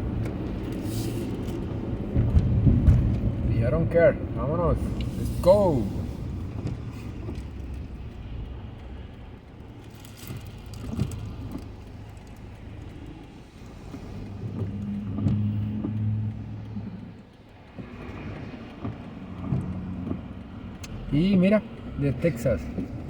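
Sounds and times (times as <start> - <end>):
vehicle engine and road hum: 0.0 - 23.0.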